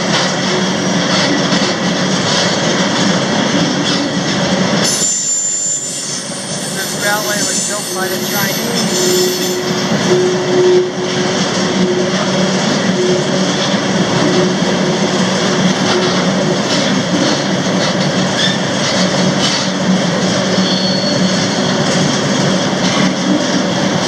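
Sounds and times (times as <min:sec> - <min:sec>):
freight train rumbling and rattling: 0:00.0 - 0:24.0.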